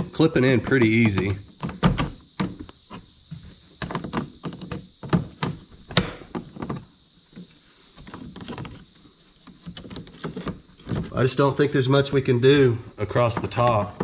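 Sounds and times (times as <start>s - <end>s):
handling noise: 0.0s - 14.0s.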